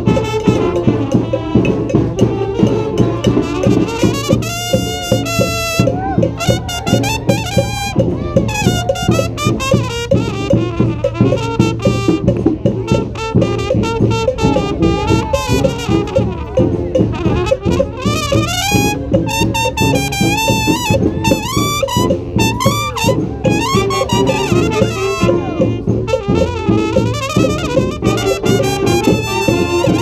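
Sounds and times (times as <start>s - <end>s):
brass band playing salsa: 0.0s - 30.0s.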